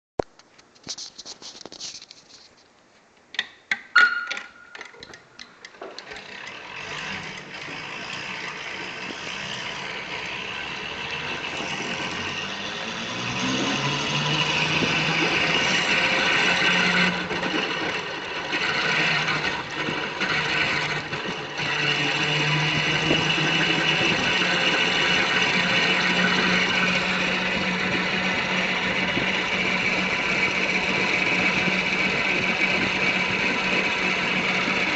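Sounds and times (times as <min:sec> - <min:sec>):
small vehicle engine driving off: 0:05.9 - 0:34.9.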